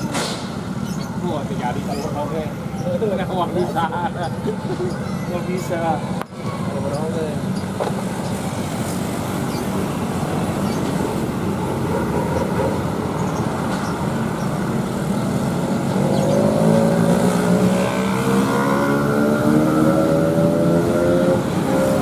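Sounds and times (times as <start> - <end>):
road noise: 0.0 - 22.0
vehicle engine accelerating: 0.0 - 22.0.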